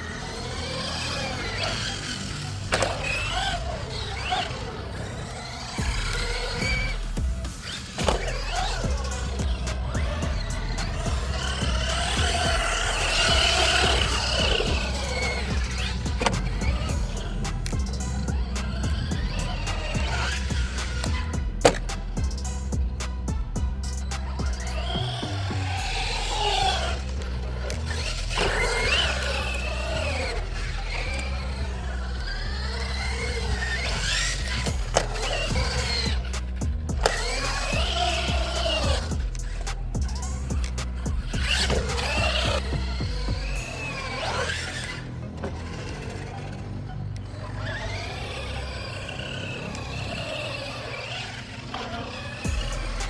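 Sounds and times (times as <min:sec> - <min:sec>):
background music with low bass: 0:00.0 - 0:53.0
electric motor whining: 0:00.0 - 0:53.0.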